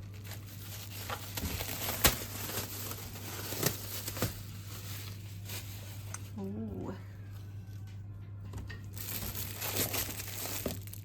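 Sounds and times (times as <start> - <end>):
dough rustling: 0.0 - 7.0, 8.9 - 11.0.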